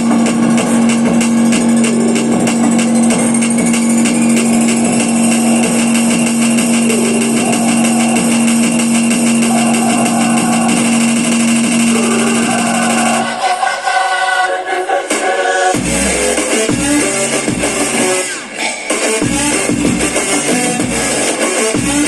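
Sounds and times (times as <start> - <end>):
electronic music from speaker: 0.0 - 22.0.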